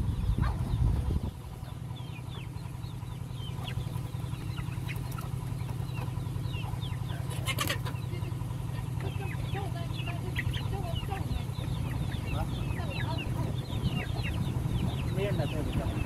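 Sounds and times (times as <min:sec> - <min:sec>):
chicks peeping: 0:00.0 - 0:16.0
steady low hum: 0:00.0 - 0:16.0.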